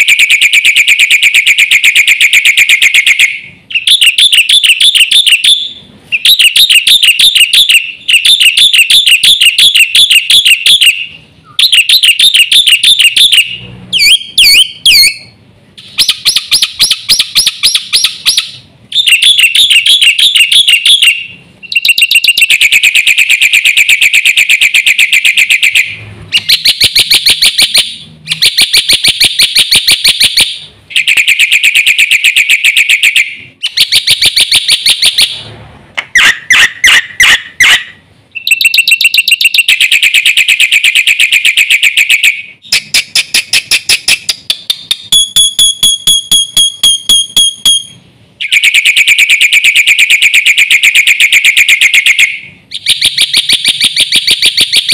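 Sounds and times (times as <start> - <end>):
bird singing rapid notes: 0.0 - 35.4, 36.0 - 54.9
clear bird whistles: 0.0 - 35.4, 36.2 - 54.9.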